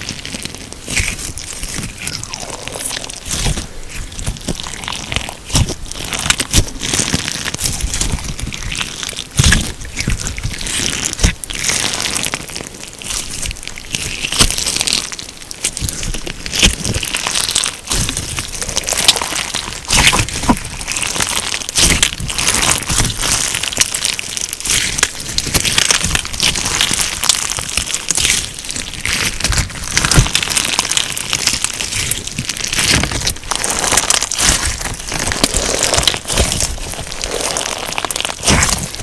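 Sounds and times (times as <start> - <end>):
crunchy slime being squeezed: 0.0 - 39.0.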